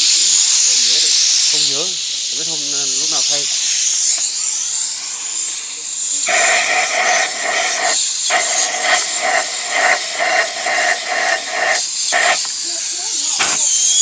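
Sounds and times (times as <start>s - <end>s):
pressurised spray hissing in pulses: 0.0s - 14.0s
steady high hiss: 0.0s - 14.0s.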